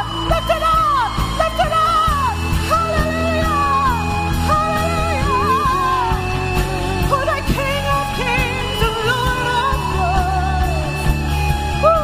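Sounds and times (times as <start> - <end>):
lead singer wavering notes: 0.0 - 12.0
worship band playing: 0.0 - 12.0.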